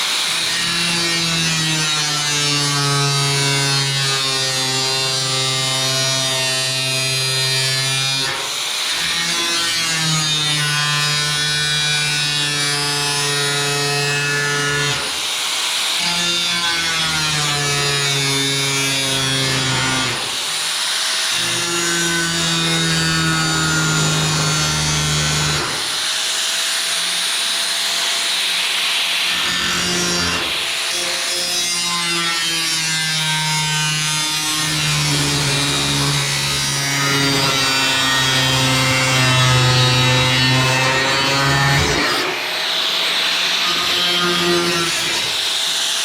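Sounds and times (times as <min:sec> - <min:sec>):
power tool cutting sheet metal: 0:00.0 - 0:46.0.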